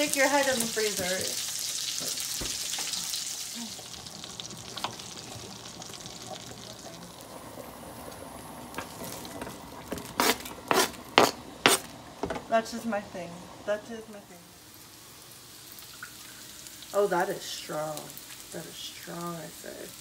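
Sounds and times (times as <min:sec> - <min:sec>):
butter and oil sizzling: 0:00.0 - 0:20.0.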